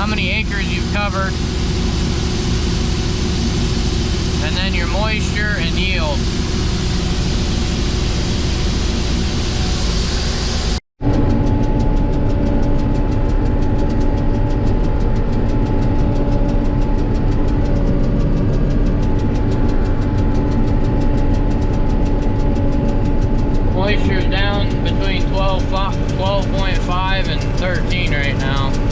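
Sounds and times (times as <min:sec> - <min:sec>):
fast even ticking: 0:00.0 - 0:10.3, 0:11.0 - 0:28.9
combine harvester running: 0:00.0 - 0:28.9.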